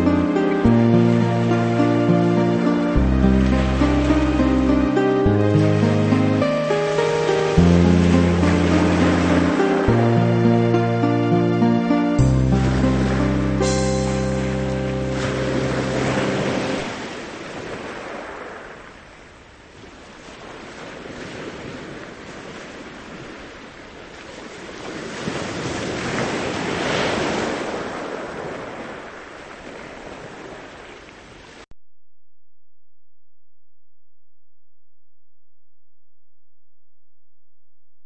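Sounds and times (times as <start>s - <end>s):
ocean waves washing in: 0.0s - 31.7s.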